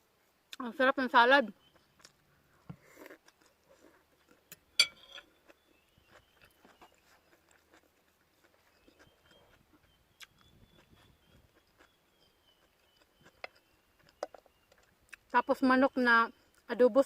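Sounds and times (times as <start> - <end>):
quiet chewing: 1.6 - 15.4, 16.3 - 16.7.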